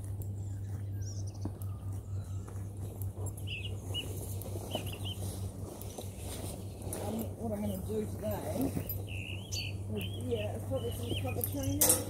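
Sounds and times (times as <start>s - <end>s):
low hum: 0.0s - 12.0s
small birds chirping: 0.0s - 12.0s.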